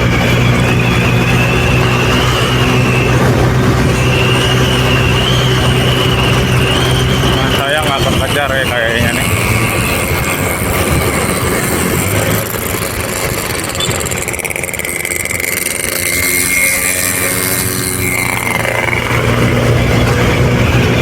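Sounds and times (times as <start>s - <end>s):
road and wind noise: 0.0s - 21.0s
vehicle engine running: 0.0s - 21.0s.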